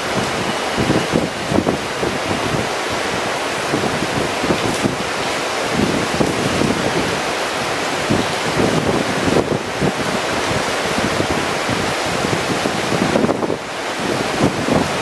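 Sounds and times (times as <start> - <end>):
rain and wind rushing: 0.0 - 15.0
wind buffeting microphone: 0.0 - 15.0.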